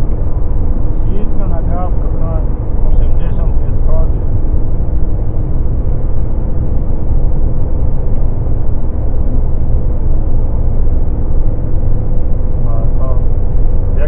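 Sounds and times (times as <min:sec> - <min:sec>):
car road and tyre noise: 0:00.0 - 0:14.0.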